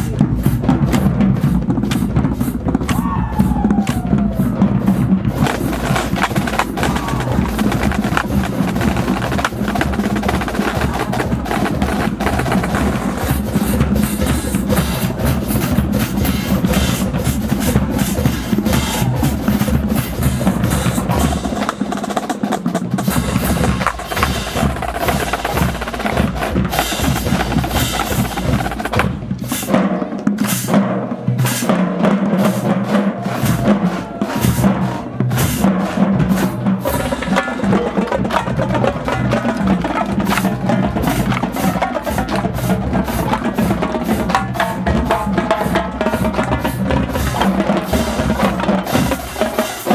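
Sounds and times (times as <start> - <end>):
bass drums: 0.0 - 49.9
snare drum rolls: 0.0 - 49.9.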